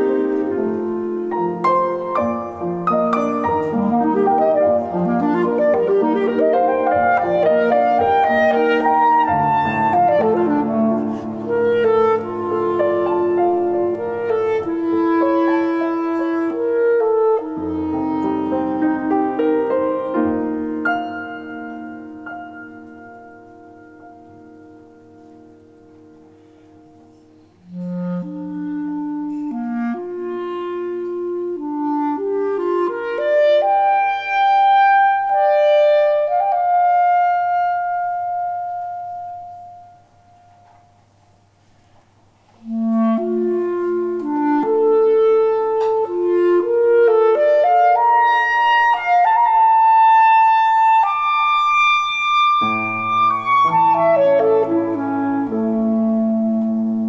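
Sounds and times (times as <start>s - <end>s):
clarinet playing slow melody: 0.0s - 41.2s, 42.5s - 57.0s
piano chords: 0.0s - 57.0s.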